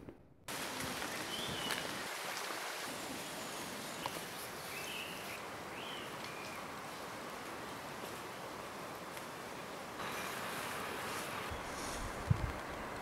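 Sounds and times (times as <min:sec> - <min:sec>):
watery hiss of wet bush: 0:00.5 - 0:13.0.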